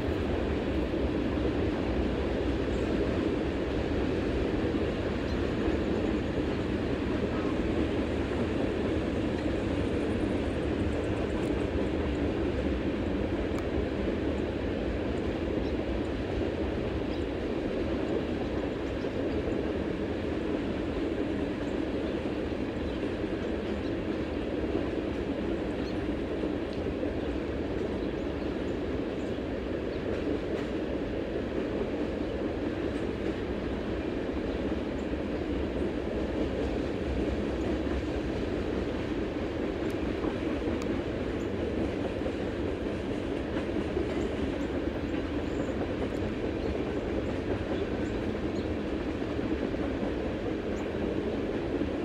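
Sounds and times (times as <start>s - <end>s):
train cars rolling on rails: 0.0s - 52.0s.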